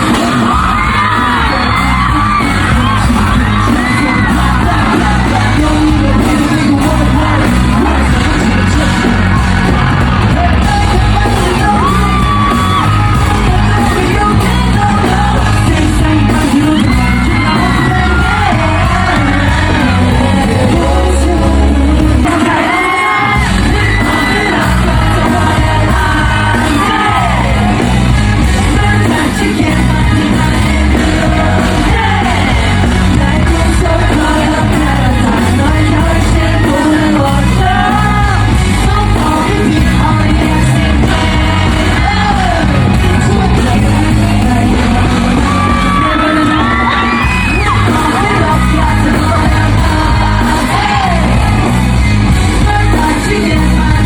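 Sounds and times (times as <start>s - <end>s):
crowd yelling and whooping: 0.0s - 54.0s
pop song with bass beat: 0.0s - 54.0s.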